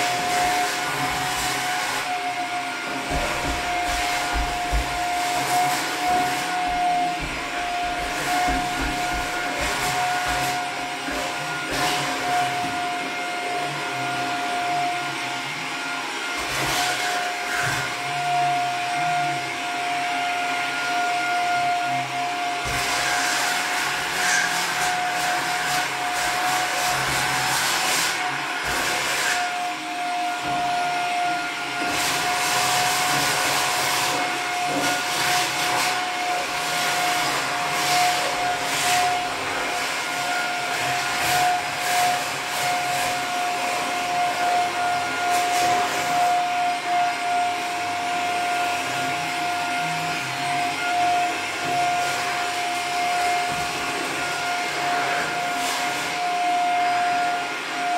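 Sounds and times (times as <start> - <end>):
vacuum cleaner whining: 0.0 - 57.9.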